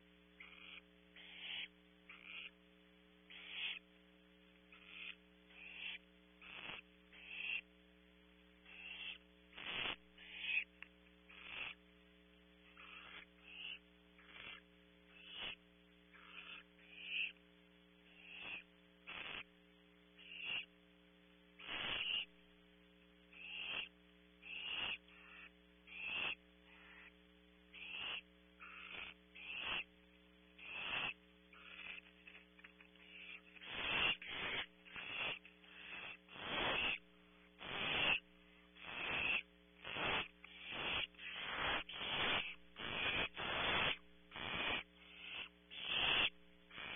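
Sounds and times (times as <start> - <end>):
electrical hum: 0.0 - 46.9
owl nestlings hissing calls: 0.3 - 2.6, 3.2 - 3.9, 4.6 - 7.8, 8.6 - 12.0, 12.6 - 20.8, 21.5 - 22.5, 23.2 - 46.9.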